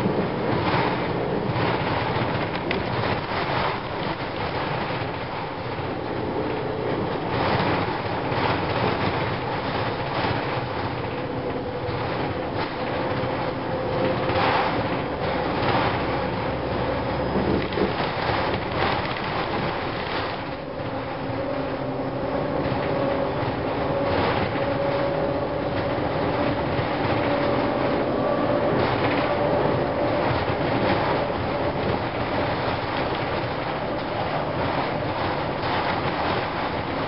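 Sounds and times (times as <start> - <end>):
bus diesel engine: 0.0 - 37.0
knocks and rattles over bumps: 0.0 - 37.0
road noise: 0.0 - 37.0.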